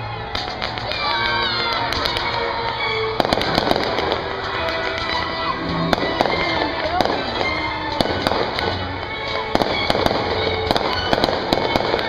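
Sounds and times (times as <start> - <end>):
crowd noise: 0.0 - 12.0
fireworks bangs and crackles: 0.0 - 12.0
music: 0.0 - 12.0.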